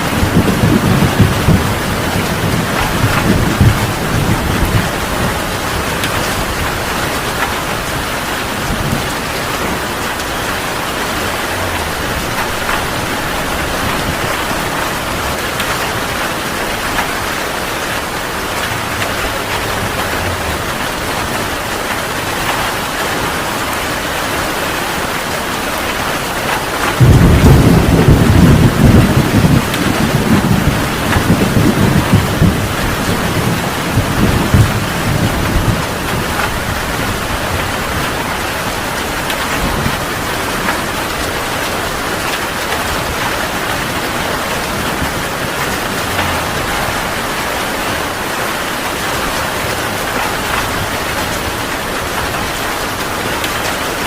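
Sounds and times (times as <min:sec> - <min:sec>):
heavy rain falling: 0:00.0 - 0:54.0
rolling thunder rumble: 0:00.0 - 0:54.0.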